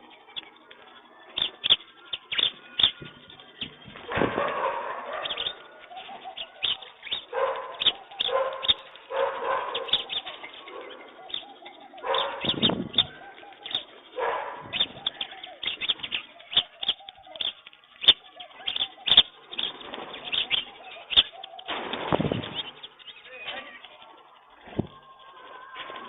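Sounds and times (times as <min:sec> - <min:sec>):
pigeons cooing: 0:00.0 - 0:26.0
wing flapping: 0:00.0 - 0:26.0.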